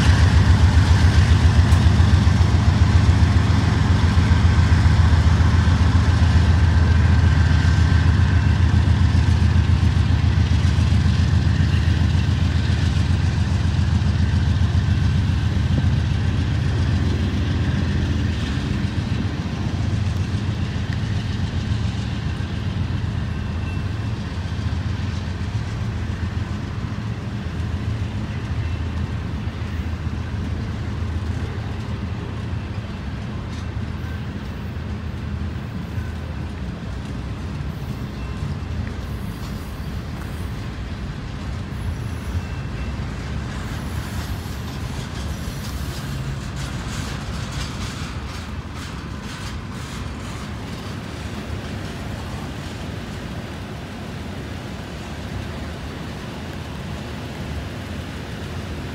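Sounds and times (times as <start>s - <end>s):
diesel engine drone: 0.0s - 58.9s
train wheels rumbling on rail: 0.0s - 58.9s.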